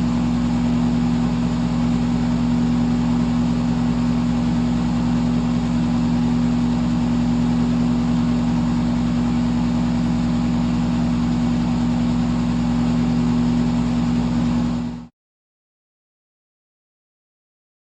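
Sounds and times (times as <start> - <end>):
electric fan running: 0.0 - 15.1.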